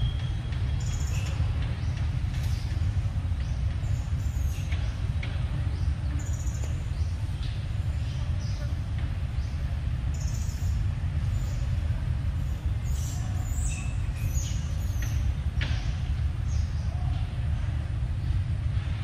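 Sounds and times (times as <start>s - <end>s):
birds chirping: 0.0s - 17.4s.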